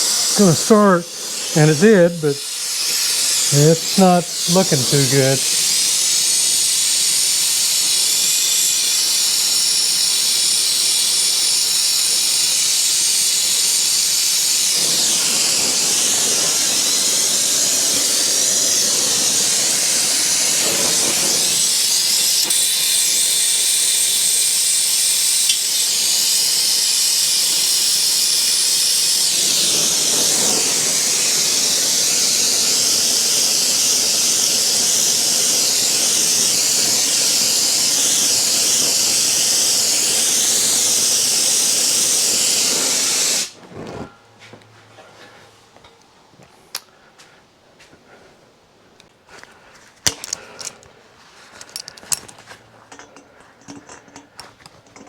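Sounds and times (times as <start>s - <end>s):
gas torch hissing: 0.0s - 44.1s.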